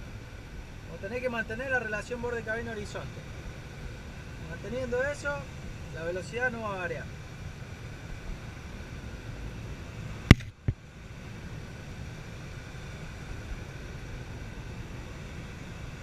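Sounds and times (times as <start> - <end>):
airflow rushing over canopy: 0.0 - 16.0.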